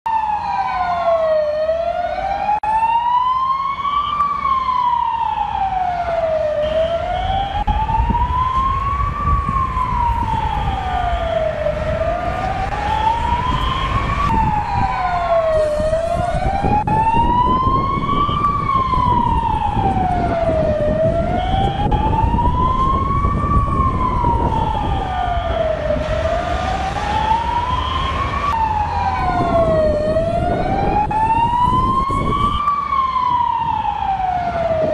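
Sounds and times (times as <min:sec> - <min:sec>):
emergency siren wailing: 0:00.1 - 0:34.9.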